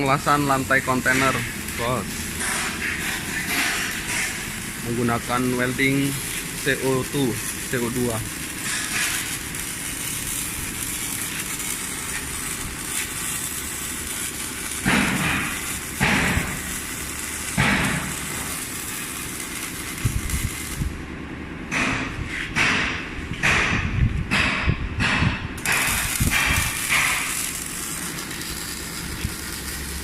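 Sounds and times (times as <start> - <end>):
welding arc crackling: 0.0 - 21.1, 25.6 - 30.0.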